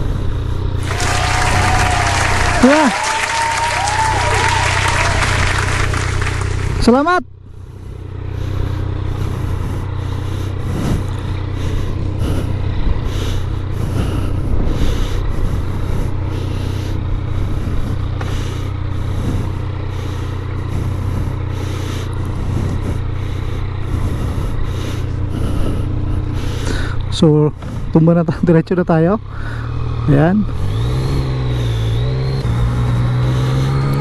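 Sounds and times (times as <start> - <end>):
motorcycle engine running at low revs: 0.0 - 3.0, 3.8 - 34.0.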